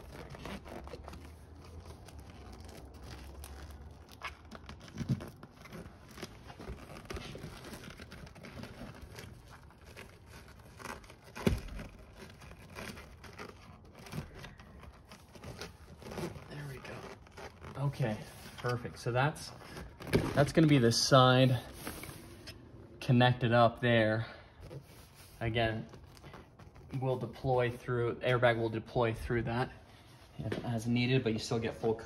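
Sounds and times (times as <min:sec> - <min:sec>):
seat cover rustling and crinkling: 0:00.0 - 0:32.0.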